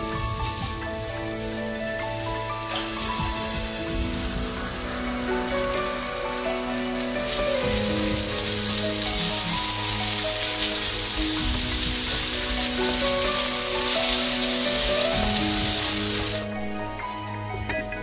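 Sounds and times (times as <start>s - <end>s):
vegetables sizzling in a frying pan: 0.0s - 16.5s
background music with held notes: 0.0s - 18.0s.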